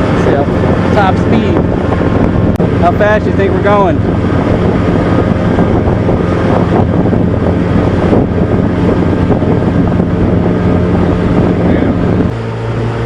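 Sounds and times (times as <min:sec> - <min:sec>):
outboard motor running: 0:00.0 - 0:13.0
wind buffeting microphone: 0:00.0 - 0:13.0.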